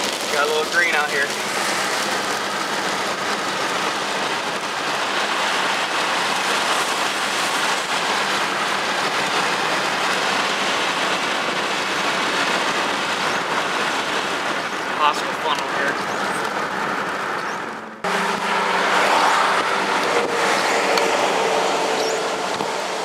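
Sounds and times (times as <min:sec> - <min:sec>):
heavy rain and wind: 0:00.0 - 0:23.0.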